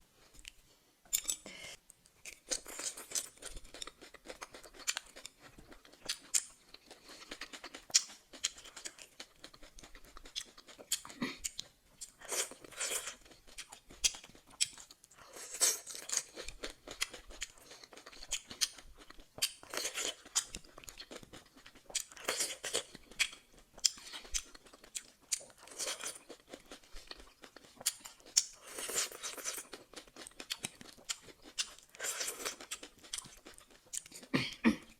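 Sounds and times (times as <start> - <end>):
person chewing crunchy food: 0.3 - 34.4.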